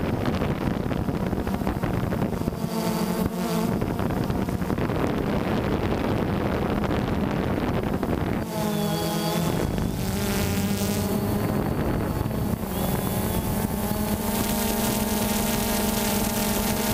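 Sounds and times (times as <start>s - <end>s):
drone propellers buzzing: 0.0s - 16.9s.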